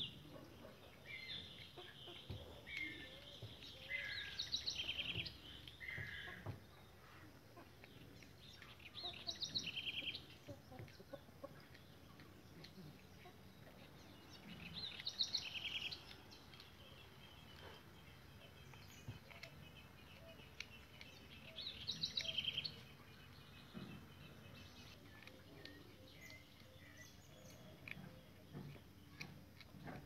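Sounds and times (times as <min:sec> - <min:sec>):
bird chirping calls: 0:00.0 - 0:30.0
faint background noise: 0:00.0 - 0:30.0.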